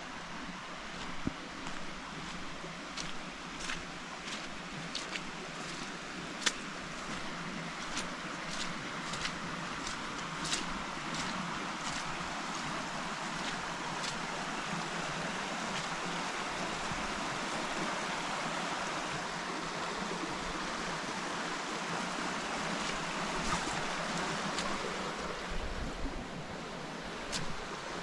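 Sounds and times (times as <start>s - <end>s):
stream running: 0.0s - 28.0s.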